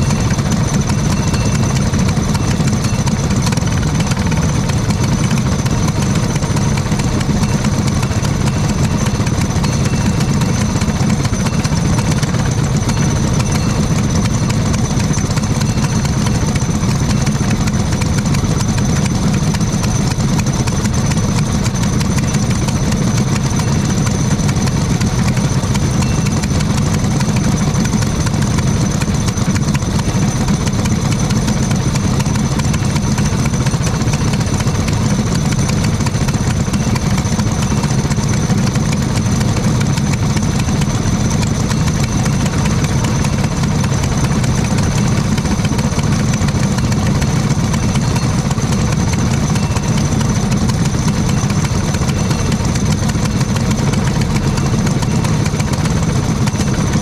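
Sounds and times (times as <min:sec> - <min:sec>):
kart engines idling: 0:00.0 - 0:57.0.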